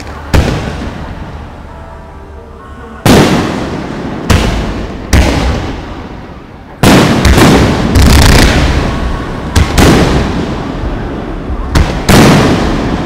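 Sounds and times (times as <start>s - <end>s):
firework booms with echo: 0.2s - 1.3s, 3.0s - 6.2s, 6.8s - 13.0s.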